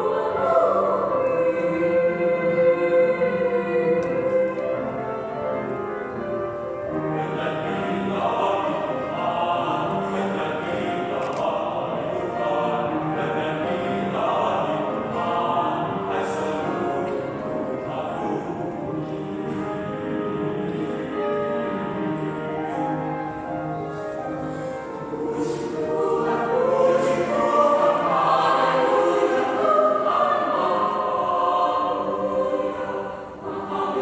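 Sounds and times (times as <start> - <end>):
choir singing in parts: 0.0 - 34.0.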